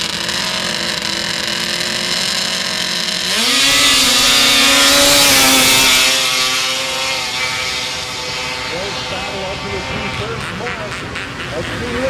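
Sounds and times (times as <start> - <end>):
snowmobile engine revving: 0.0 - 12.0
snowmobile engines running: 0.0 - 12.0.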